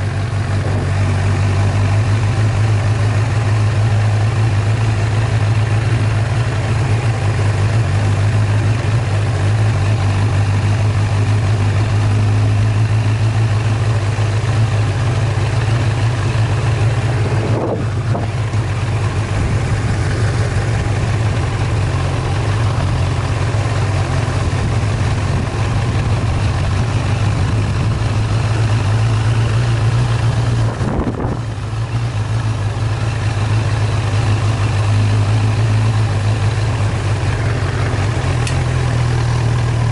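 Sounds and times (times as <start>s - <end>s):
small vehicle engine droning: 0.0s - 39.9s.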